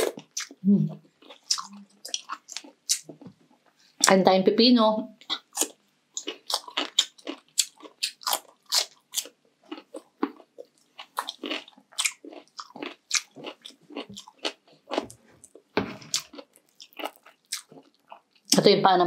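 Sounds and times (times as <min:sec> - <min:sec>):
chewing crunchy food: 0:00.0 - 0:04.2, 0:05.2 - 0:18.6.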